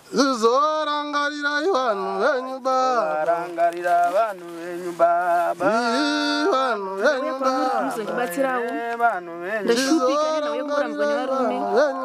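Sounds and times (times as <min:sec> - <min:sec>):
person chanting: 0:00.0 - 0:12.0.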